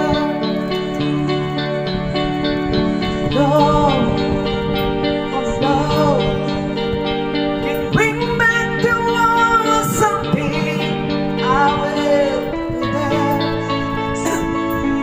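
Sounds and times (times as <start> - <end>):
backing music with sustained chords: 0.0 - 15.0
person singing: 0.0 - 15.0.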